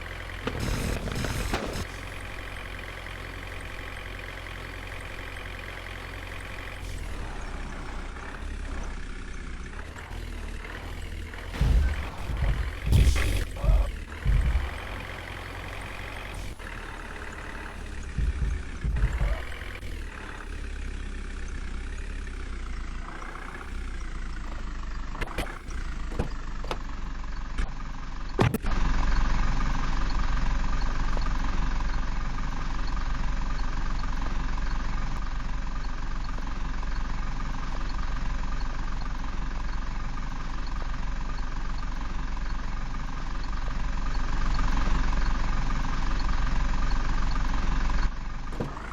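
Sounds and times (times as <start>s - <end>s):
diesel tractor engine idling: 0.0s - 48.9s.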